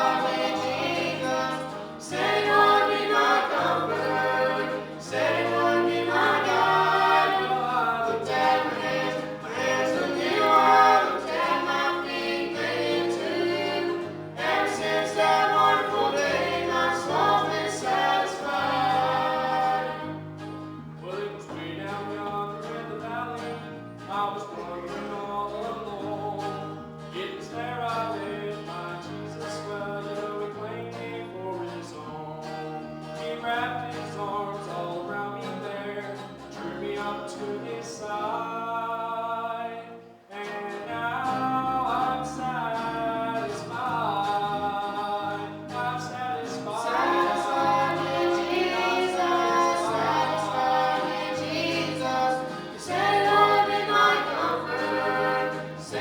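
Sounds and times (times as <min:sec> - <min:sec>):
gospel voices singing: 0:00.0 - 0:56.0
guitar: 0:00.0 - 0:56.0.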